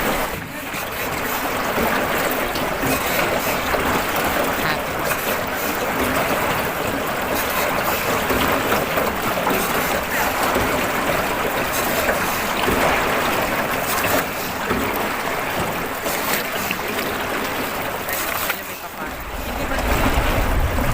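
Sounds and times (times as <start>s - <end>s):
river water rushing and splashing: 0.0s - 20.9s.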